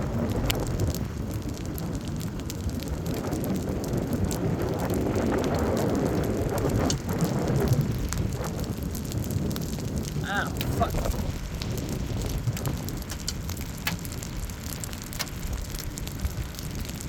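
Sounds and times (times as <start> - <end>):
low wind rumble: 0.0 - 17.0
raindrops tapping close by: 0.0 - 17.0
storm rain falling: 0.0 - 17.0.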